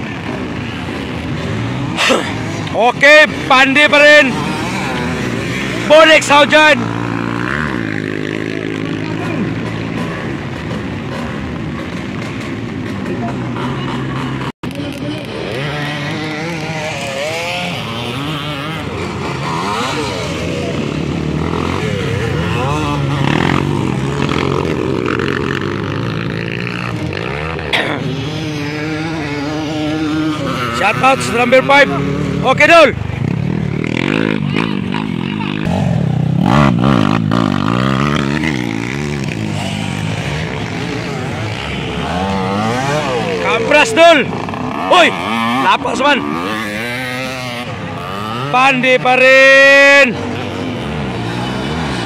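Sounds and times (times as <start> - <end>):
dirt bikes revving: 0.0 - 52.0.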